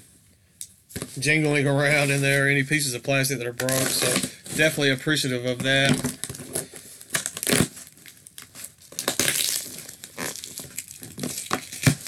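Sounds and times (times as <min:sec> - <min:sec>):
hands rustling packing peanuts: 0:01.0 - 0:12.0.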